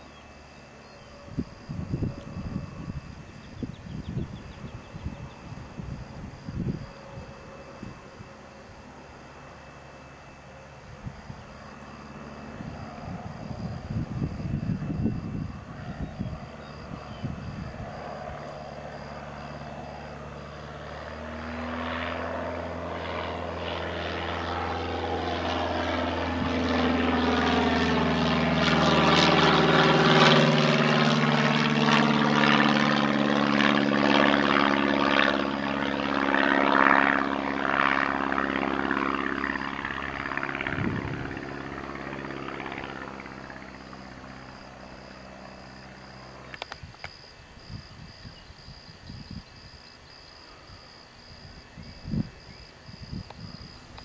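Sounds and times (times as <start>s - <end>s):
propeller airplane flying past: 0.0s - 54.0s.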